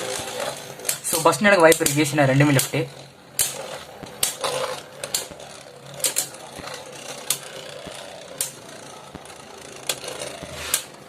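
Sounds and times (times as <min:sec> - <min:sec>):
spinning tops clacking together: 0:00.0 - 0:11.0
spinning tops whirring: 0:00.0 - 0:11.0.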